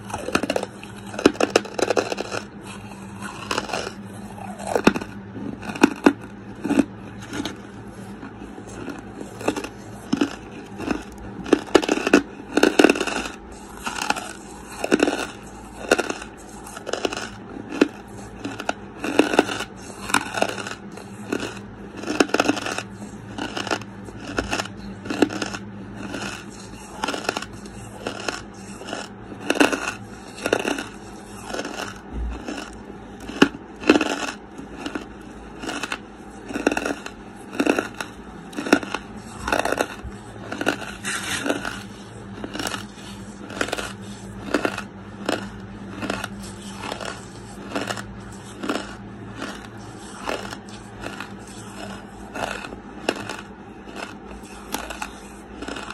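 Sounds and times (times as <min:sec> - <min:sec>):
crisp chewing crunches: 0:00.0 - 0:55.9
faint steady hum: 0:00.0 - 0:55.9.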